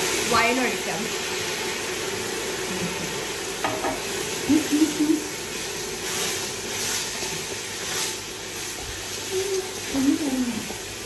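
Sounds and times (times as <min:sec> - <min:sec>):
rice sizzling in a pot: 0:00.0 - 0:11.0.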